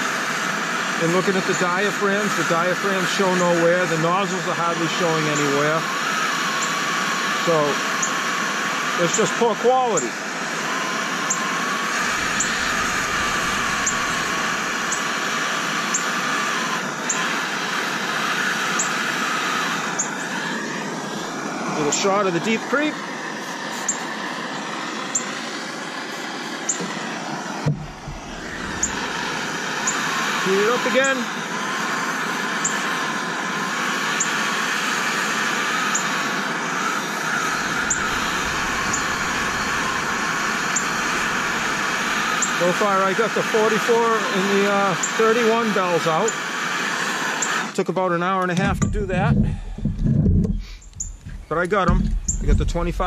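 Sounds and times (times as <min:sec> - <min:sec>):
gas torch flame hissing: 0:00.0 - 0:53.0.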